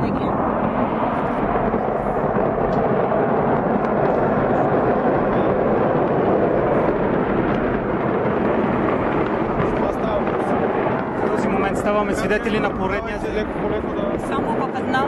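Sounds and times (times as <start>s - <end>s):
fire rushing: 0.0s - 15.0s.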